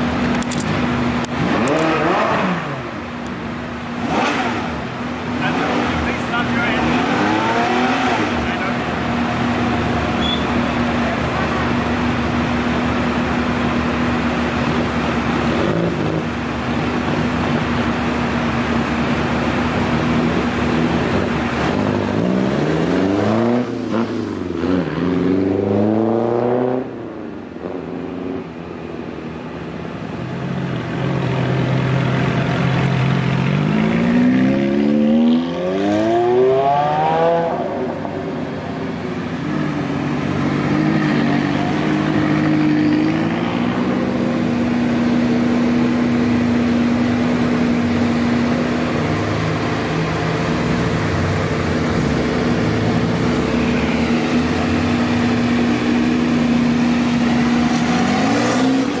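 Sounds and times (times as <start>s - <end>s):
engine running at low revs: 0.0s - 59.0s
sports car engines revving: 0.0s - 59.0s.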